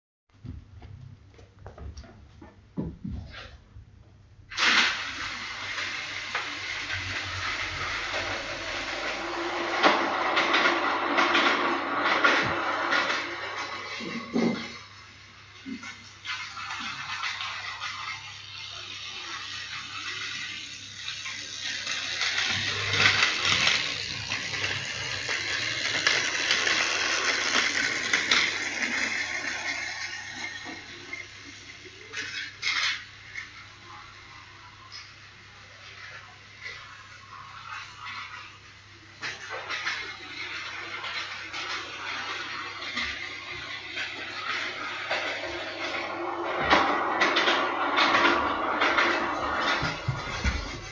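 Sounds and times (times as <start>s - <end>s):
toy train rattling on track: 4.6s - 50.9s
faint motor hum: 6.3s - 50.9s.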